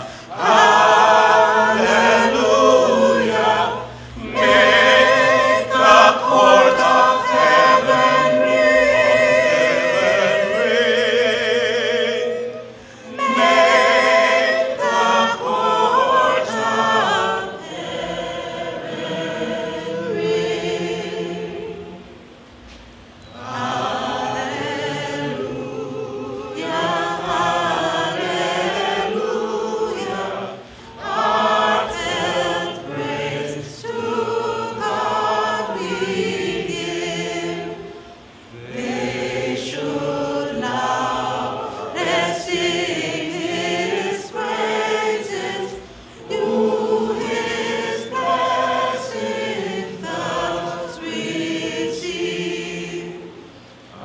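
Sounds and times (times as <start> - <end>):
group singing a cappella: 0.0 - 54.0.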